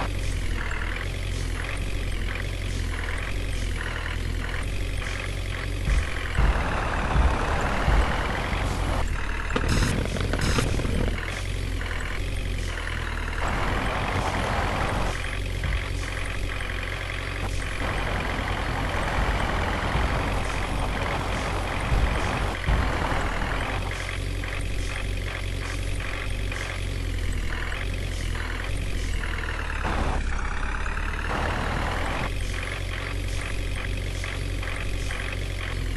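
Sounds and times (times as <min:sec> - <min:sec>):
tractor engine rumbling: 0:00.0 - 0:35.9.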